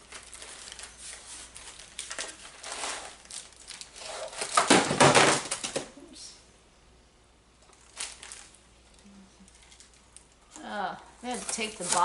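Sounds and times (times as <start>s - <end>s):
packaging crinkling and rustling: 0.0s - 5.9s, 7.6s - 12.0s.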